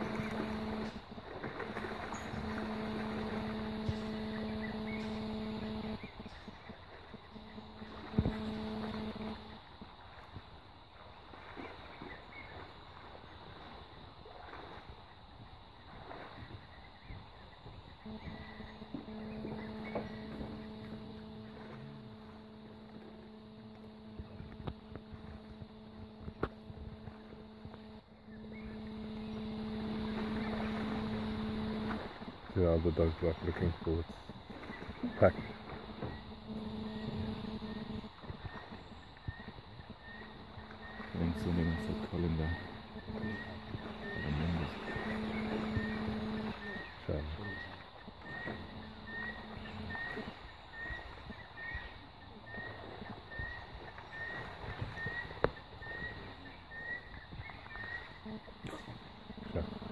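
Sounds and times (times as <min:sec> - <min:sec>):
mechanical hum: 0:00.0 - 0:10.3, 0:15.8 - 0:59.9.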